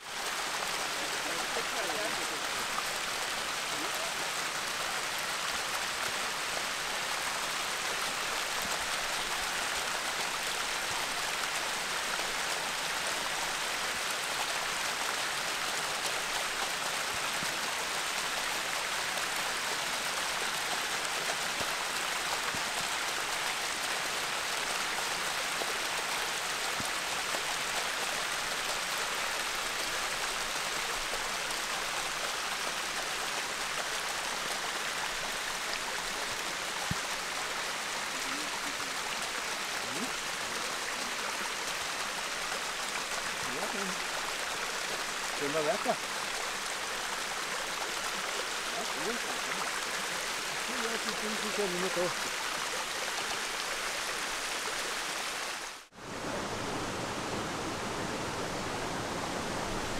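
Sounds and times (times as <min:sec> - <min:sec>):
water running over rock: 0:00.0 - 0:56.3.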